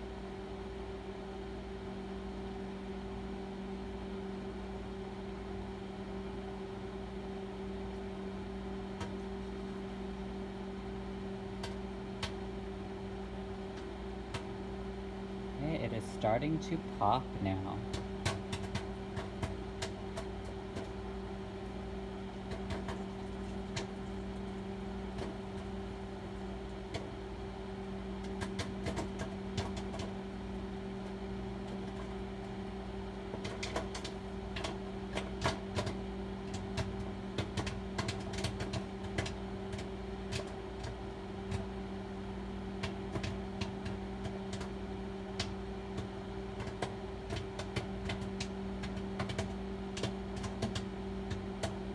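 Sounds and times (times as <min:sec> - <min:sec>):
microwave oven humming: 0:00.0 - 0:51.9
popcorn popping: 0:08.6 - 0:51.9.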